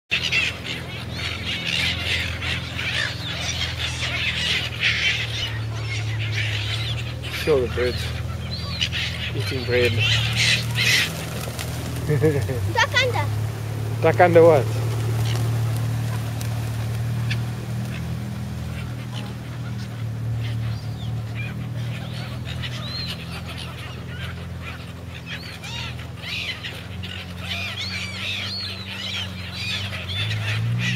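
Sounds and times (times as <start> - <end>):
gulls calling: 0.1 - 30.9
low steady hum: 0.1 - 30.9.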